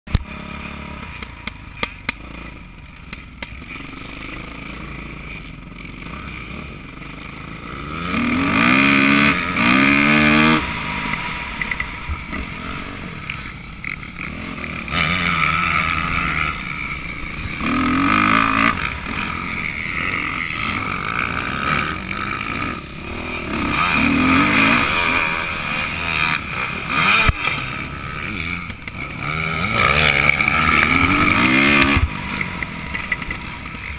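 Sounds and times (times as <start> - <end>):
dirt bike engine revving: 0.1 - 33.9.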